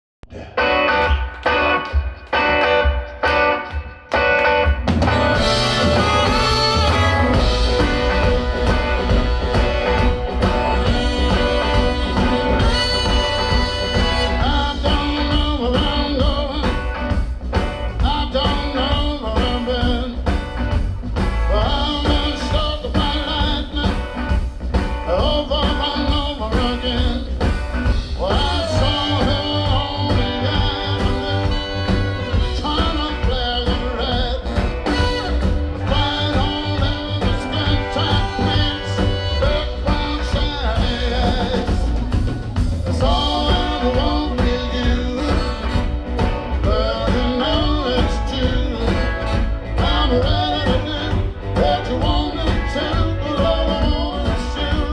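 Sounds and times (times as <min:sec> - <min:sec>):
blues-rock band playing: 0:00.3 - 0:54.9.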